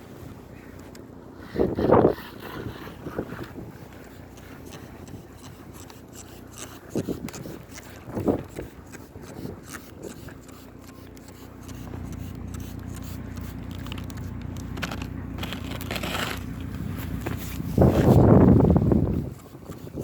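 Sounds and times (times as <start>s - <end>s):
steady low rumble: 0.0s - 20.0s
ice scraper scraping window: 1.3s - 20.0s.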